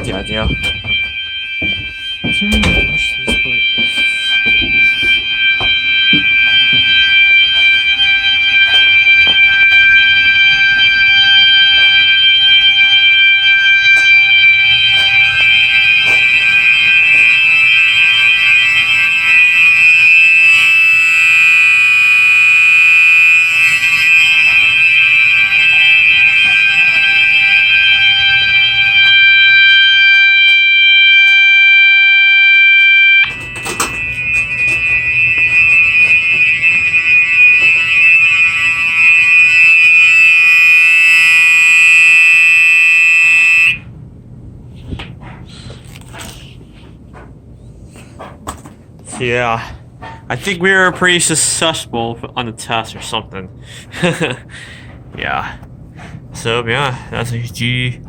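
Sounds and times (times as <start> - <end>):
fire alarm horns: 0.0 - 57.9.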